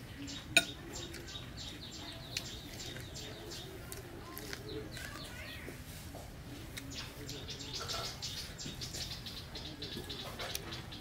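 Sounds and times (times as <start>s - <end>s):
birds chirping: 0.0s - 5.8s, 6.7s - 11.0s.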